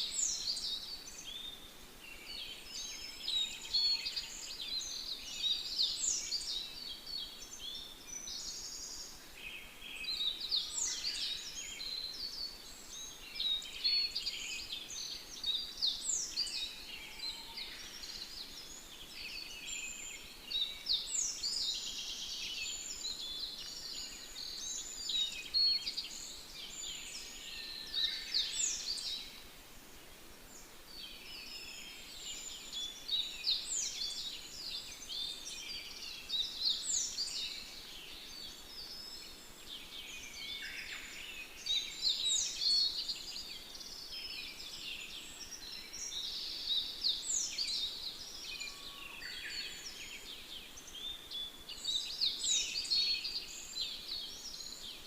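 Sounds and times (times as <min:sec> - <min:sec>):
birds chirping chorus: 0:00.0 - 0:55.0.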